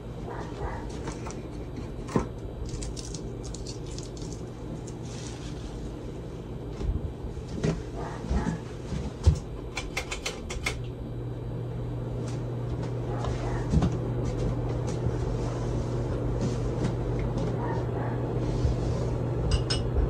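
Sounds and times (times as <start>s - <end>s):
ceiling fan motor hum: 0.0s - 20.0s.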